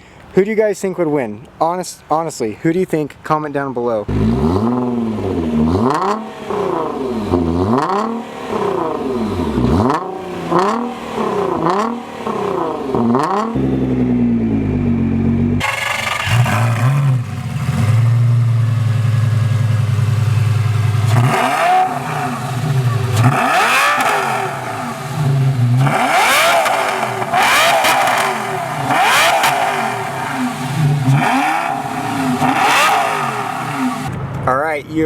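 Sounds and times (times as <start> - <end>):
sports car engine idling and revving: 4.1 - 34.5.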